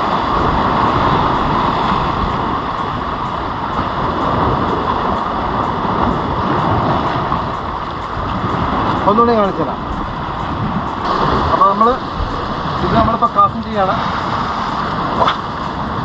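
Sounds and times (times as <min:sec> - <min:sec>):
low rumble: 0:00.0 - 0:16.0
sea water rushing: 0:00.0 - 0:16.0
wind on microphone: 0:00.0 - 0:16.0.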